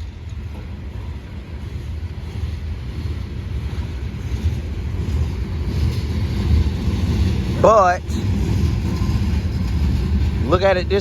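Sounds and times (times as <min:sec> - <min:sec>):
diesel locomotive rumble: 0:00.0 - 0:11.0
wind noise on microphone: 0:00.0 - 0:11.0.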